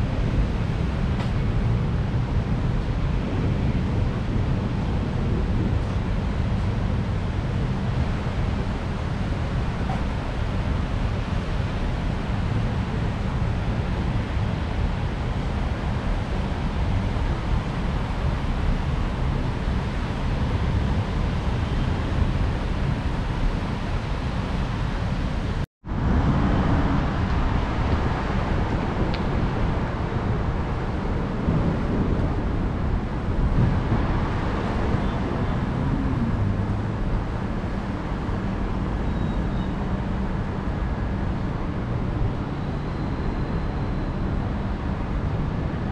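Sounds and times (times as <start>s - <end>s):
heavy rain: 0.0s - 45.9s
traffic on wet roads: 0.0s - 45.9s
wind: 0.0s - 45.9s
wind buffeting microphone: 0.0s - 45.9s.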